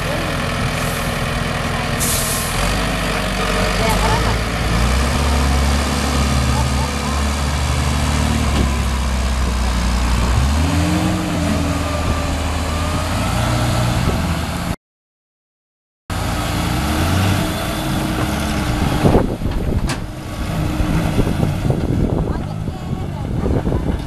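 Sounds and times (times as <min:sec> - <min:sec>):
heavy diesel engines under load: 0:00.0 - 0:14.8, 0:16.1 - 0:24.0.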